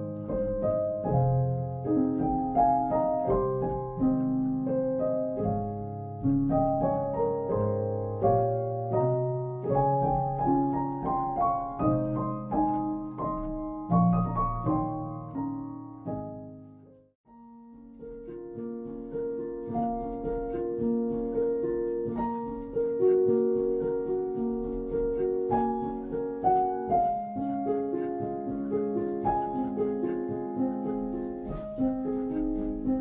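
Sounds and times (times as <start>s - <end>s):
calm piano melody: 0.0s - 33.0s.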